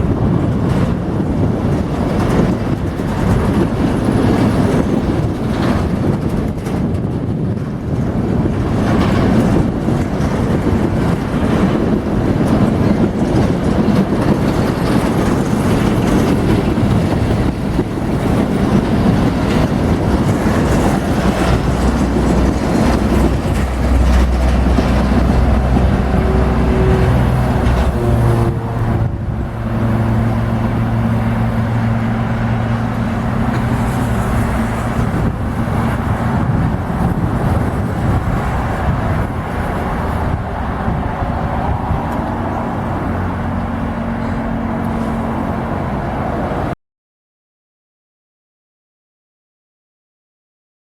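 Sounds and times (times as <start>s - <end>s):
diesel locomotive engine drone: 0.0s - 46.8s
train wagons rumbling: 0.0s - 46.8s.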